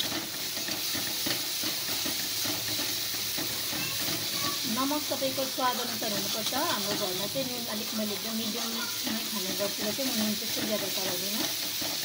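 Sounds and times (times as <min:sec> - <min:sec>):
frying sizzle: 0:00.0 - 0:12.0
spatula scraping metal pan: 0:00.0 - 0:12.0.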